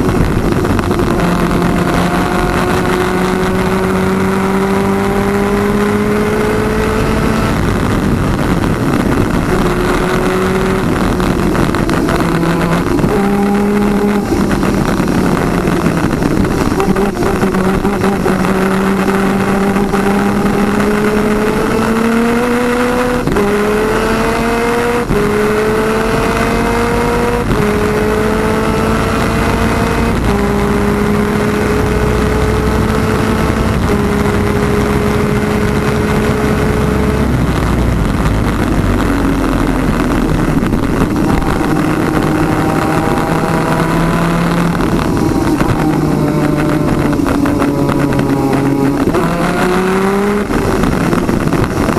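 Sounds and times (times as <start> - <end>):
kart engine accelerating: 0.0 - 51.9
road noise: 0.0 - 51.9
wind rushing: 0.0 - 51.9.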